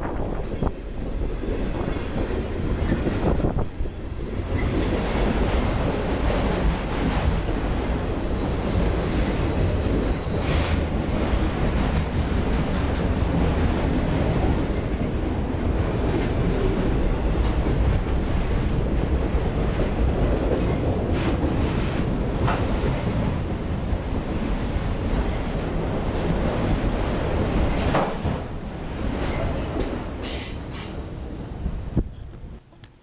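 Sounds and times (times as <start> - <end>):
rail clacks: 0.0 - 33.0
train wheels rumbling on rail: 0.0 - 33.0.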